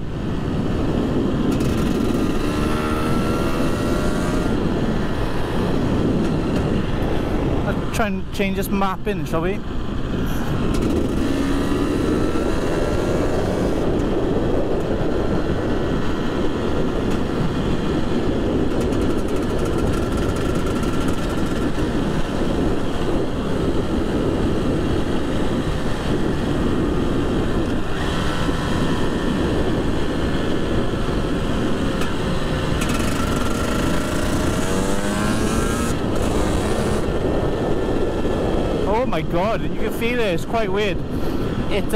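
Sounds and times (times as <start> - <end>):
steady rush of noise: 0.0 - 41.9
two-stroke motorcycle engine revving: 1.4 - 6.8, 10.6 - 38.8.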